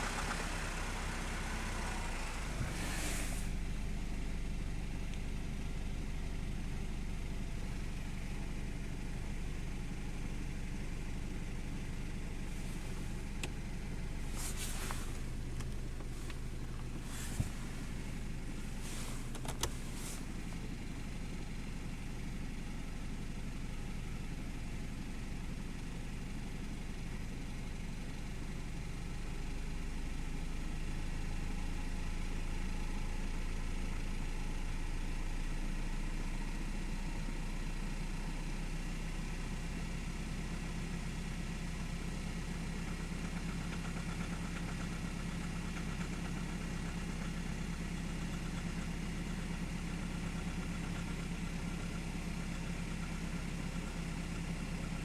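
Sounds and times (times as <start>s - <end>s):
car engine idling: 0.0s - 34.0s, 41.2s - 55.0s.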